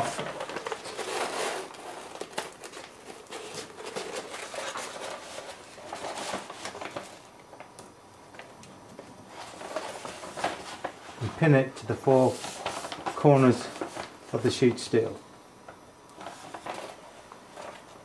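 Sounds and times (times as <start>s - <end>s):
paper rustling and crinkling: 0.0s - 7.7s, 9.3s - 14.8s, 16.2s - 18.0s.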